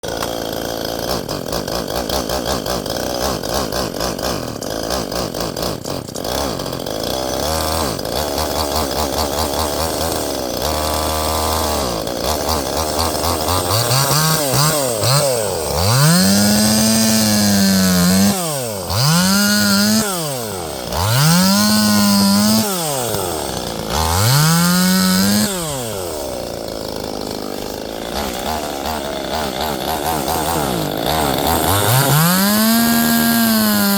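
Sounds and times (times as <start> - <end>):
chainsaw idling and revving: 0.0 - 33.9.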